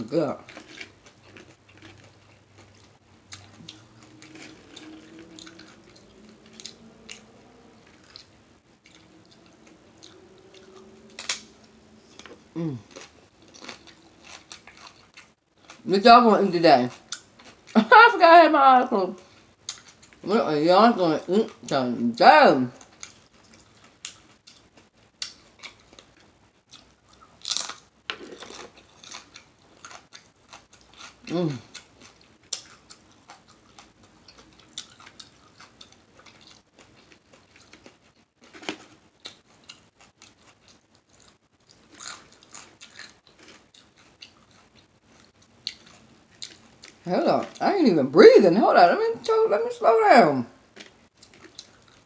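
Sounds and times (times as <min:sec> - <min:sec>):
soft wet chewing: 0:00.4 - 0:15.8, 0:16.9 - 0:17.8, 0:19.2 - 0:20.2, 0:22.8 - 0:47.6, 0:50.7 - 0:52.0.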